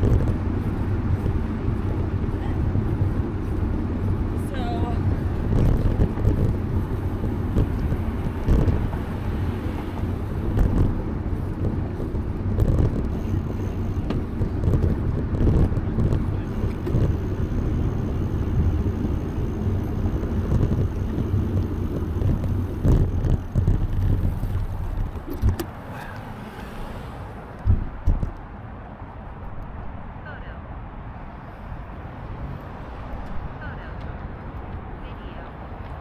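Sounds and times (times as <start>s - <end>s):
wind buffeting microphone: 0.0s - 30.2s
road noise: 0.0s - 36.0s.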